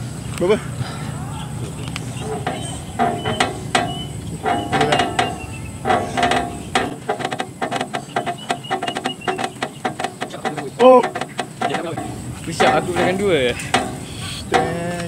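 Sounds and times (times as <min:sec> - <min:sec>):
metal pull-up bar creaking: 0:02.0 - 0:15.0.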